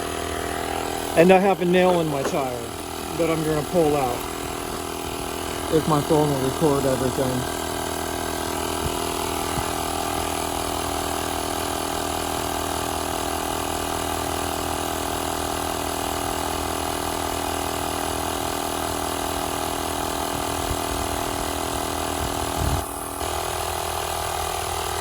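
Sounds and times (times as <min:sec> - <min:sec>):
tire pump buzzing: 0:00.0 - 0:25.0.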